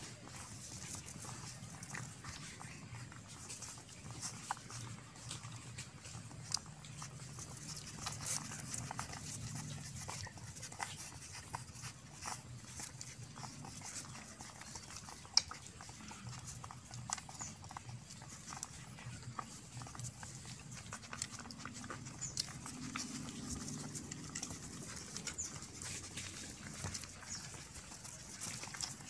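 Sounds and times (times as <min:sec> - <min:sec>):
puppies suckling: 0:00.0 - 0:29.0.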